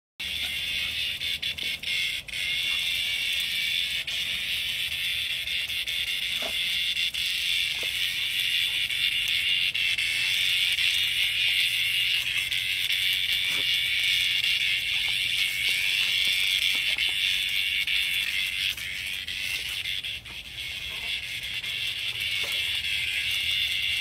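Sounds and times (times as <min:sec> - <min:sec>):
cicada buzzing: 0:00.2 - 0:24.0.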